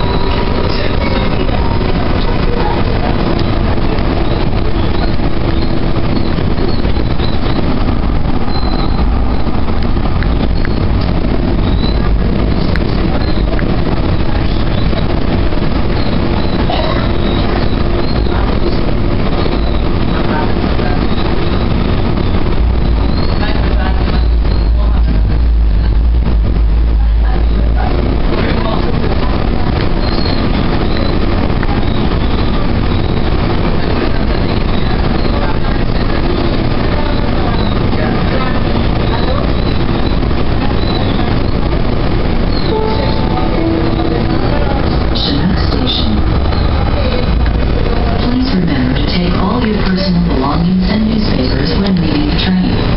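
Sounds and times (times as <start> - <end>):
train wheels rumbling: 0.0 - 52.9.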